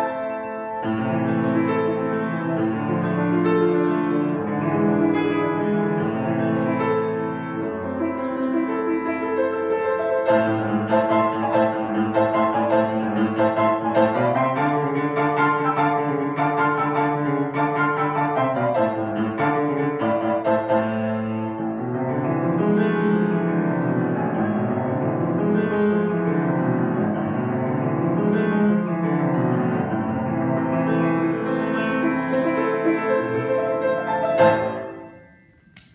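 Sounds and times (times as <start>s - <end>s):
solo piano: 0.0s - 35.5s.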